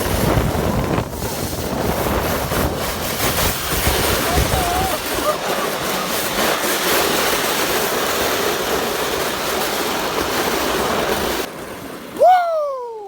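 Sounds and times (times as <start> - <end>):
wind buffeting microphone: 0.0 - 11.5
sled scraping on ice: 0.0 - 12.2.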